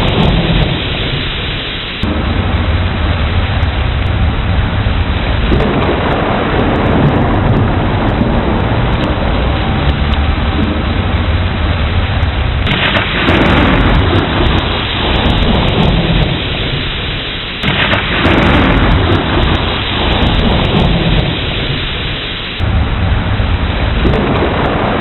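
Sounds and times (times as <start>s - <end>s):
heavy rain: 0.0s - 25.0s
thunder rolling: 0.0s - 25.0s.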